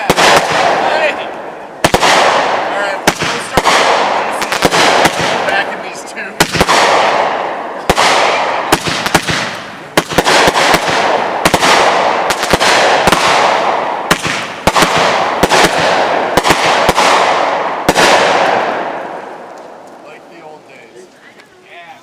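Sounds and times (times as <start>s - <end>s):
firework bangs: 0.0s - 20.4s.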